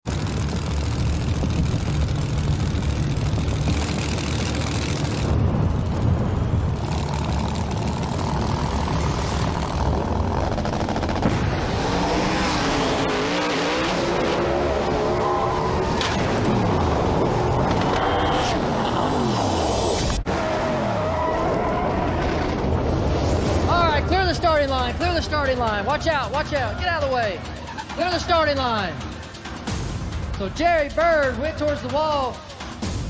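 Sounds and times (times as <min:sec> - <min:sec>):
drag-race car engines rumbling: 0:00.1 - 0:32.9.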